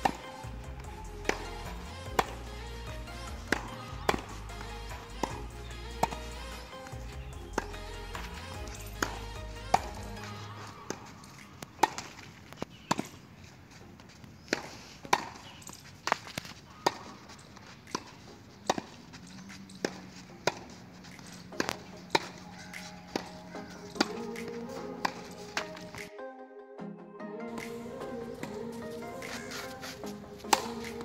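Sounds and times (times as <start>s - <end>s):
tennis balls bouncing on clay: 0.0s - 26.1s, 27.6s - 31.0s
tennis balls struck by racket: 0.0s - 26.1s, 27.6s - 31.0s.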